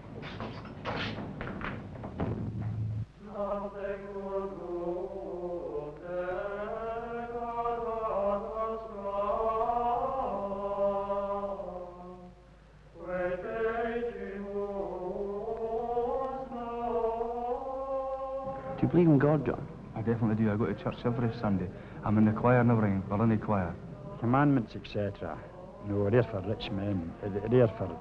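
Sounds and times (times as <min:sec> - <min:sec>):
voices singing a slow chant: 0:03.2 - 0:28.0.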